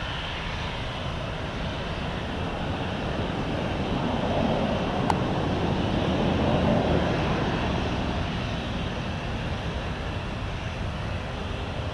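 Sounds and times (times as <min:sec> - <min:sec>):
jet engines at takeoff thrust: 0:00.0 - 0:11.9.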